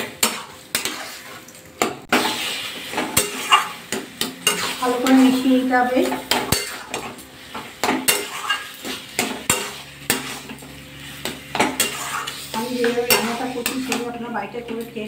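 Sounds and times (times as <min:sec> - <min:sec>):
metal spatula scraping a pan: 0:00.0 - 0:01.5, 0:02.1 - 0:14.3
frying sizzle: 0:00.0 - 0:15.0.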